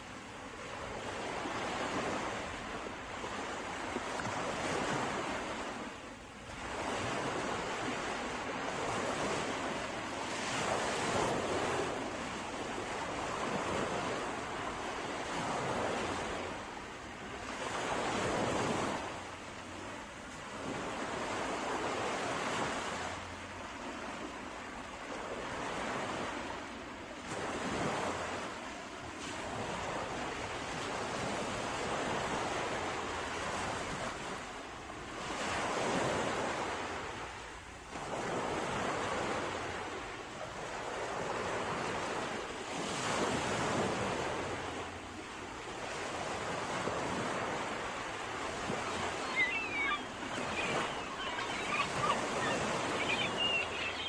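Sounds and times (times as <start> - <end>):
sea waves breaking ashore: 0.0 - 54.0.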